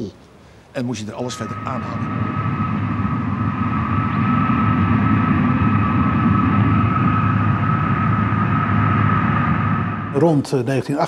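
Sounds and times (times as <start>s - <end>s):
engine rumbling with high whine: 0.8s - 11.0s.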